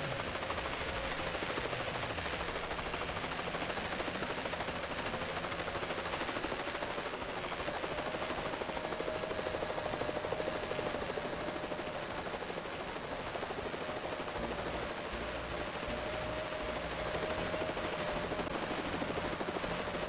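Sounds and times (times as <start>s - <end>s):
rapid rattle: 0.0s - 20.0s.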